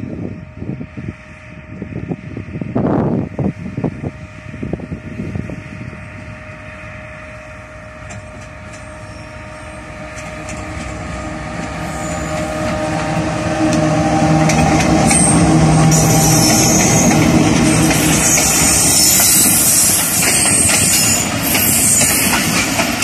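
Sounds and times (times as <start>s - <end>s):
locomotive engine hum: 0.0s - 23.0s
rail noise: 0.0s - 23.0s.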